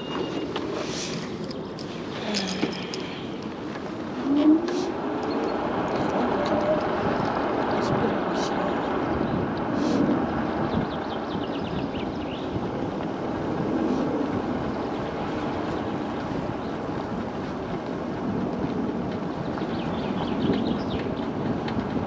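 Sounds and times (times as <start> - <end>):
scooter wheels rumbling on road: 0.0 - 22.0
wind buffeting microphone: 0.0 - 22.0.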